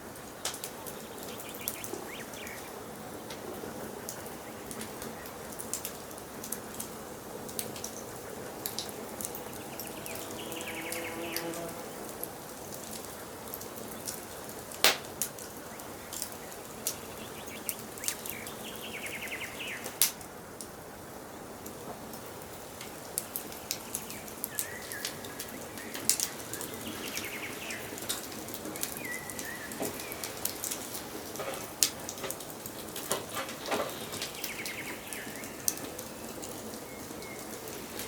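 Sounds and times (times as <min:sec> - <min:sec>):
wood fire crackling: 0:00.0 - 0:38.0
small birds chirping: 0:00.3 - 0:14.7, 0:15.3 - 0:20.2, 0:22.9 - 0:38.0.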